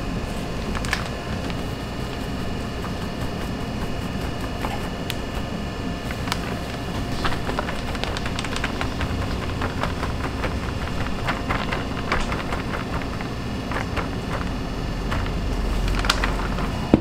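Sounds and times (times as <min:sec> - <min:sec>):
low background rumble: 0:00.0 - 0:17.0
plastic bag crinkling: 0:00.2 - 0:05.3, 0:06.0 - 0:16.9
powder pouring into a bowl: 0:00.3 - 0:16.8.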